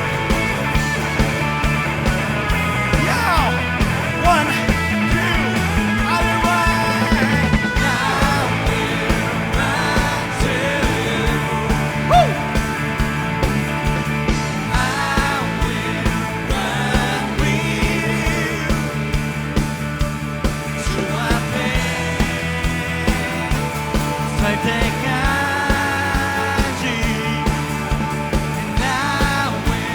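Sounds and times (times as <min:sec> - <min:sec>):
drums beat: 0:00.0 - 0:29.9
held bass: 0:00.0 - 0:29.9
rock band playing: 0:00.0 - 0:29.9
sliding lead line: 0:00.0 - 0:29.9.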